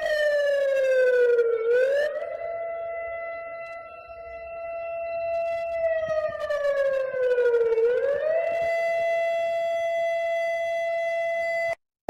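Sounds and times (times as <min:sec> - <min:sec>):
emergency siren wail: 0:00.0 - 0:11.8.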